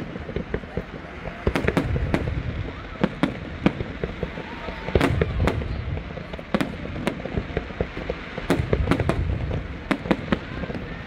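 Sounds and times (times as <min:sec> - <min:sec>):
firework pops and crackling: 0:00.0 - 0:11.0
firework shells bursting: 0:00.0 - 0:11.0.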